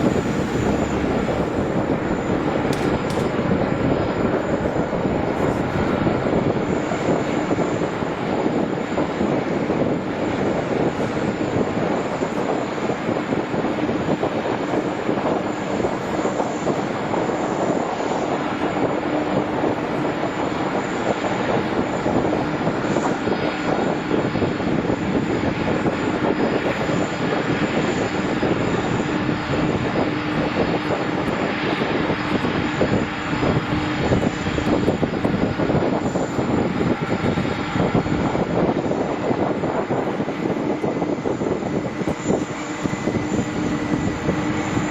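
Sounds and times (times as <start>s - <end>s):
airliner engines humming: 0.0s - 44.9s.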